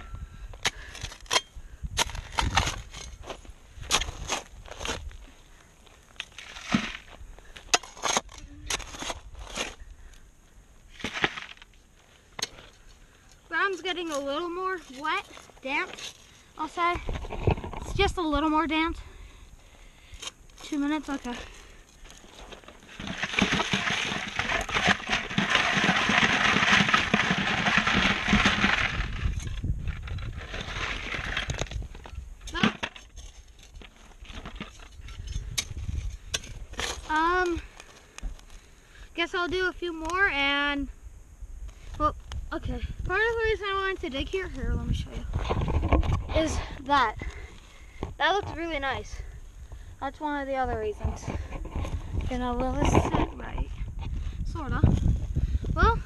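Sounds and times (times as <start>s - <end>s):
shovel scraping gravelly dirt: 0.0s - 9.9s, 10.9s - 19.0s, 20.1s - 40.4s, 43.1s - 49.4s, 50.0s - 56.0s.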